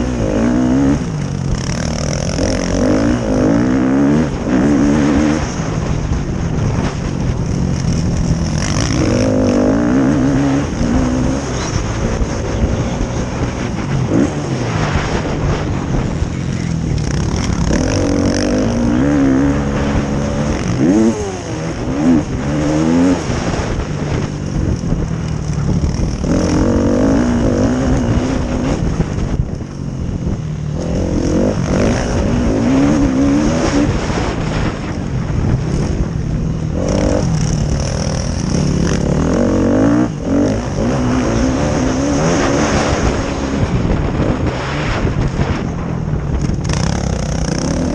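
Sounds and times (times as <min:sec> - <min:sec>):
motocross engines revving: 0:00.0 - 0:29.5, 0:30.7 - 0:47.9.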